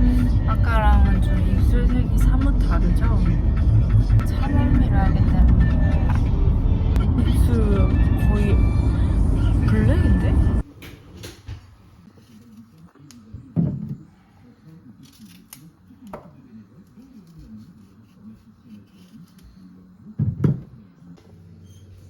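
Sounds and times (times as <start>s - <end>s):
faint background voices: 0.0s - 22.0s.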